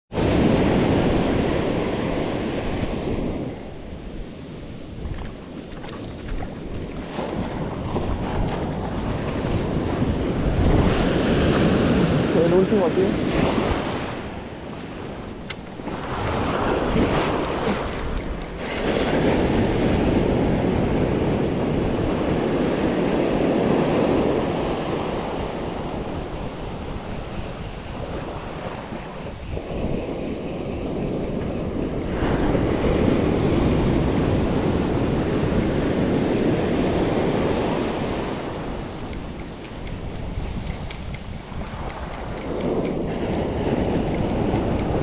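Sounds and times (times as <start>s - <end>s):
wind buffeting microphone: 0.1s - 45.0s.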